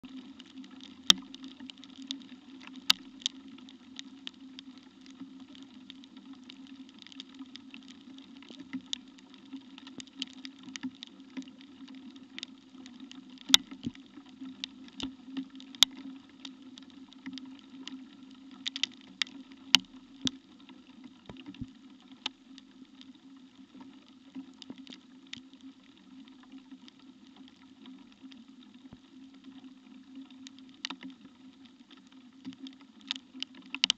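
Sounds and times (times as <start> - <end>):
raindrops ticking: 0.0 - 33.9.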